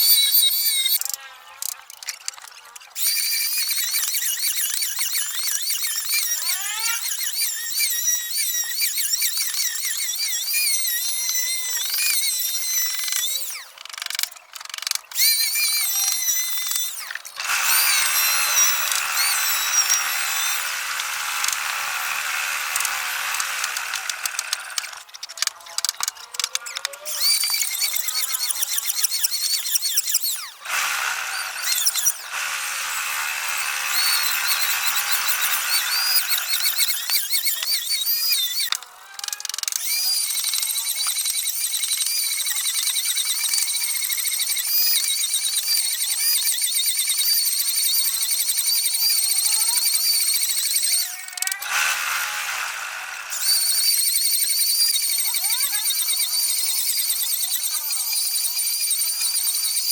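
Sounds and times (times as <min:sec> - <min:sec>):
high-pitched power tool whine: 0:00.0 - 0:02.2, 0:02.8 - 0:38.8, 0:39.6 - 0:59.9.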